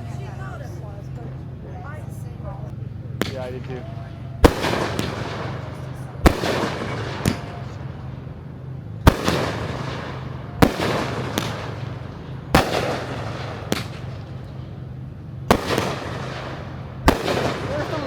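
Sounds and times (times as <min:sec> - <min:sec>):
low hum: 0:00.0 - 0:18.0
fireworks bangs: 0:01.0 - 0:14.6, 0:15.5 - 0:18.0.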